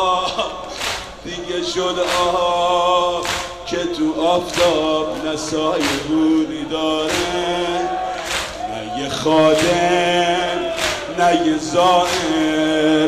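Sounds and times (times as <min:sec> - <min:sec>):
man chanting a mourning lament: 0:00.0 - 0:13.0.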